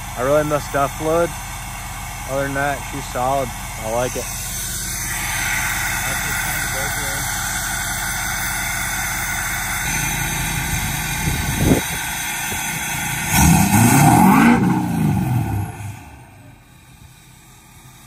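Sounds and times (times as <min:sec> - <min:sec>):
diesel engine idling and revving: 0:00.0 - 0:18.0.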